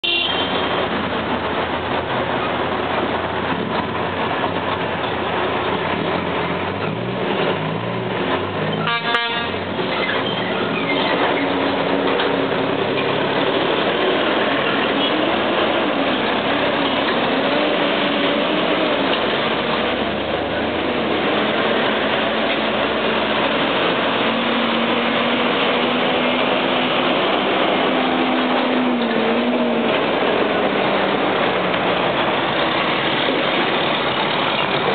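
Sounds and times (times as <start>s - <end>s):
diesel trucks driving past: 0.0s - 34.9s.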